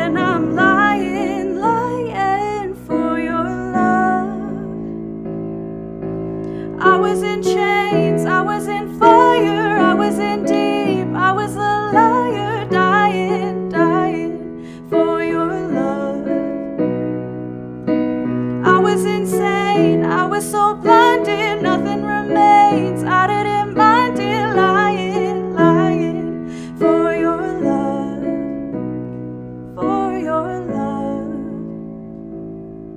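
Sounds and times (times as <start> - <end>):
woman singing: 0.0 - 5.0, 6.5 - 16.8, 18.6 - 28.9, 29.7 - 31.9.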